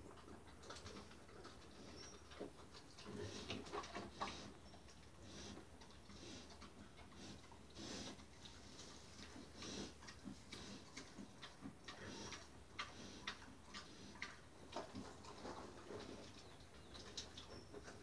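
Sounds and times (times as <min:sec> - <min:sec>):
pig crunching dry pellets: 0:00.0 - 0:18.0.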